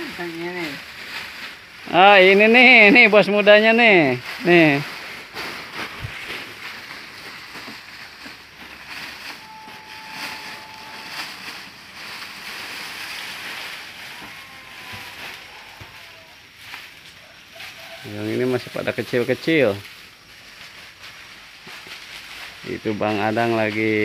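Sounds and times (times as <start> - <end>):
dried leaves rustling and crackling: 0.0 - 24.0
plastic sacks rustling: 0.0 - 24.0.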